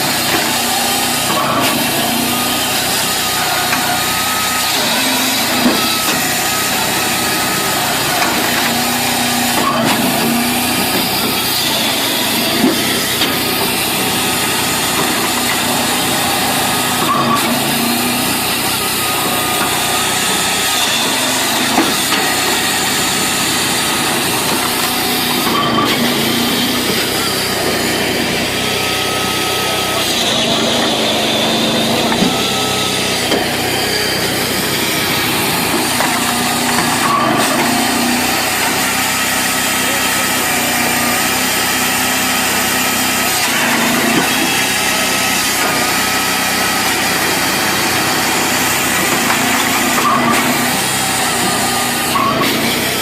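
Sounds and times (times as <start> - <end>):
engine drone: 0.0 - 53.0
sawing: 0.0 - 53.0.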